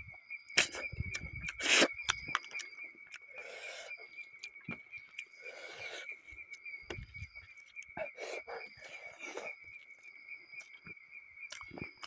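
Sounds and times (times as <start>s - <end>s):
man chewing with mouth smacks: 0.6s - 12.0s.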